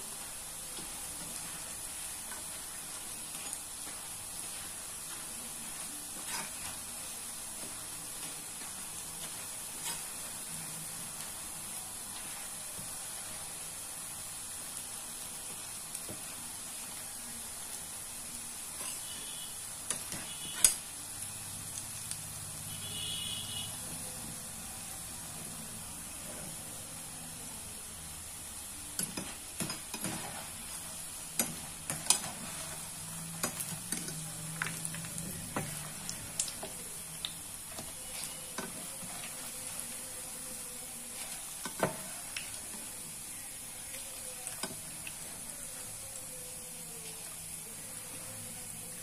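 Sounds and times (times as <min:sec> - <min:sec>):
fritters sizzling in hot oil: 0:00.0 - 0:49.0.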